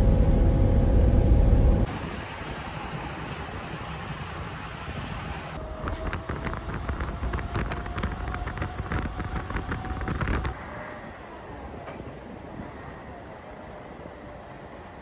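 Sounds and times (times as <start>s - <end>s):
bus road rumble and whine: 0.0s - 15.0s
wind noise outdoors: 0.0s - 15.0s.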